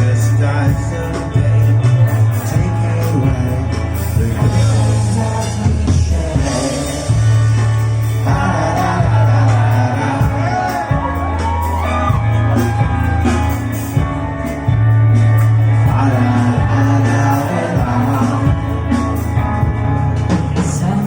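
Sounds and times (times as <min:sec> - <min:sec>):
drums: 0:00.0 - 0:21.0
held bass notes: 0:00.0 - 0:21.0
live rock band playing: 0:00.0 - 0:21.0.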